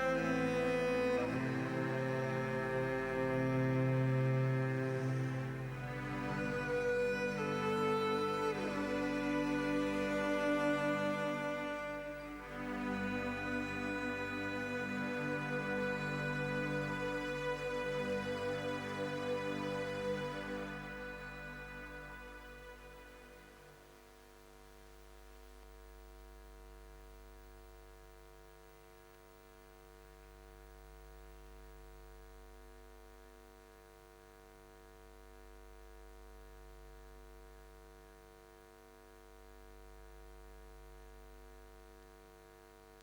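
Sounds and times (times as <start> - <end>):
faint low hum with overtones: 0.0 - 43.0.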